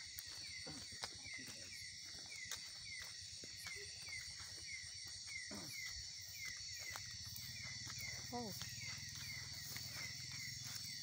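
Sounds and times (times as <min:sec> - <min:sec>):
faint footsteps: 0:00.0 - 0:11.0
insects buzzing: 0:00.0 - 0:11.0.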